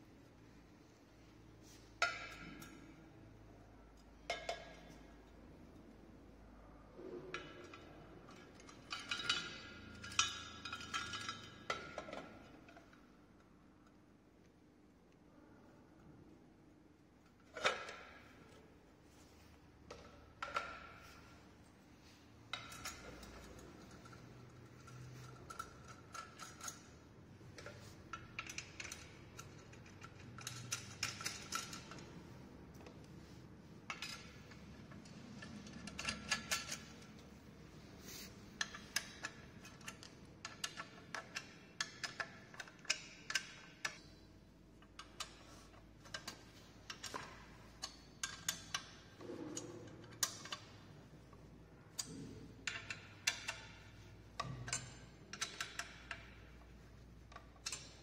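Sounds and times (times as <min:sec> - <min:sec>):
metal parts clicking and knocking: 0:02.0 - 0:03.2, 0:03.9 - 0:05.4, 0:07.3 - 0:14.0, 0:17.2 - 0:18.7, 0:19.4 - 0:58.0.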